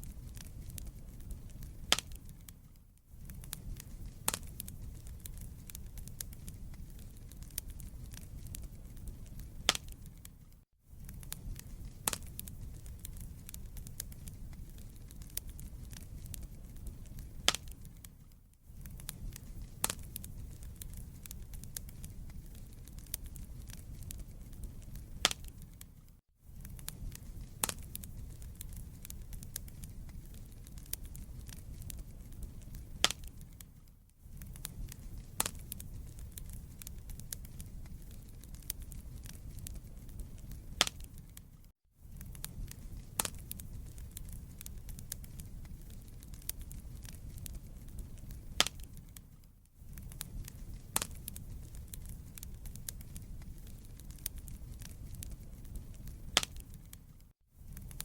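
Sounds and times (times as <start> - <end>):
burning logs crackling and popping: 0.0 - 58.0
flames rumbling: 0.0 - 58.0.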